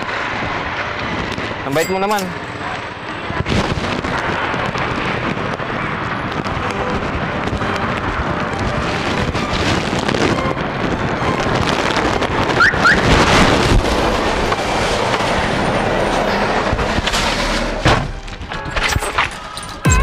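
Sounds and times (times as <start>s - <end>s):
traffic road noise: 0.0s - 20.0s.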